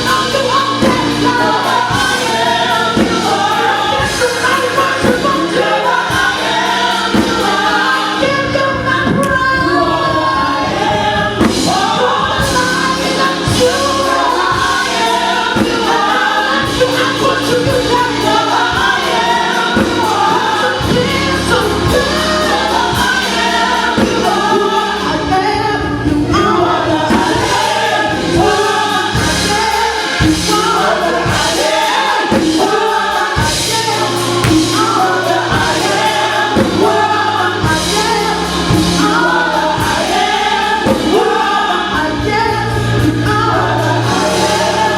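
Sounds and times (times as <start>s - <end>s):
band with bass and drums: 0.0s - 44.9s
choir singing: 0.0s - 44.9s.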